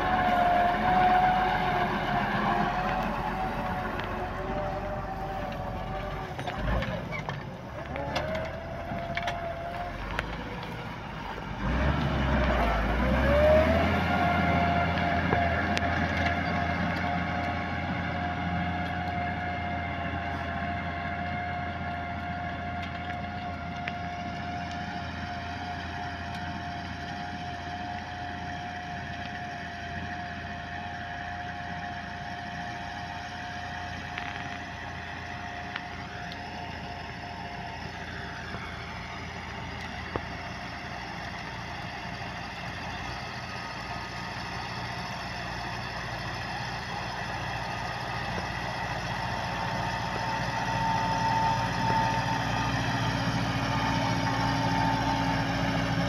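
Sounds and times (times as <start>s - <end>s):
tractor engine whining: 0.0s - 56.0s.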